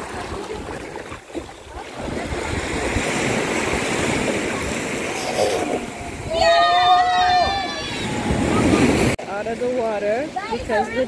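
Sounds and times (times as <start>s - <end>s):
ocean surf on beach: 0.0s - 11.0s.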